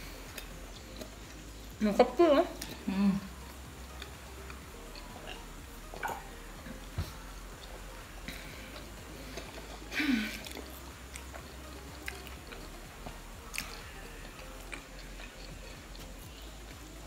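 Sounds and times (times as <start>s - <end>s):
people chewing: 0.0s - 17.0s.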